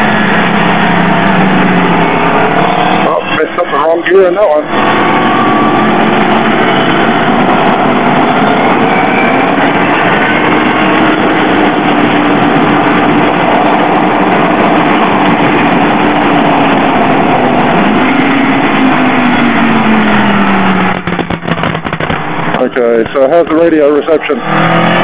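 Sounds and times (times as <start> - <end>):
motorcycle engine: 0.0 - 25.0
wind rush: 0.0 - 25.0.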